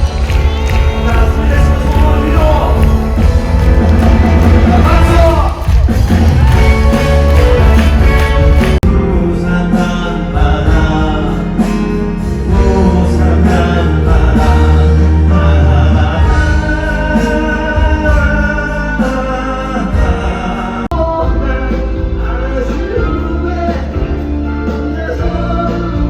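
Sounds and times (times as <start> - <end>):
music with choir-like singing: 0.0 - 26.0
steady bass line: 0.0 - 26.0.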